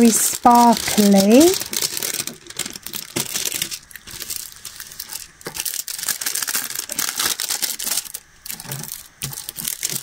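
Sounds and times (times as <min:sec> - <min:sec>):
plastic film crinkling and rustling: 0:00.0 - 0:10.0.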